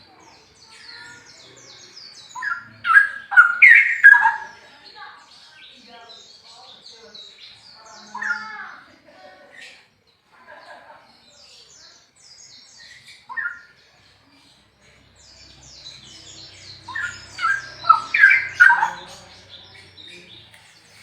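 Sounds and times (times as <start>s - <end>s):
bird singing: 0.0s - 21.0s.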